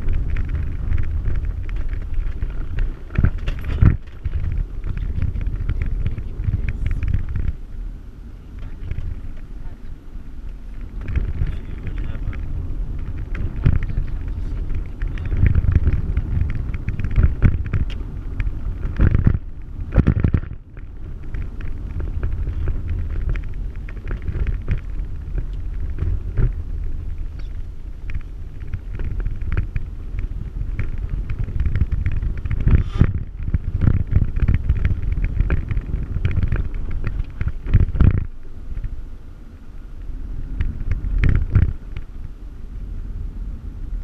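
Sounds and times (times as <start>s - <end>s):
knocks and rattles over bumps: 0.0s - 39.2s, 39.8s - 42.4s
vehicle engine and tyre rumble: 0.0s - 44.0s.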